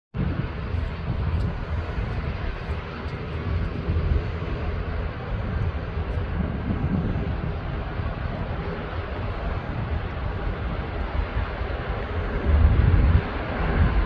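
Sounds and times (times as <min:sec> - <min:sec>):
jet engines deep rumble: 0:00.2 - 0:14.0.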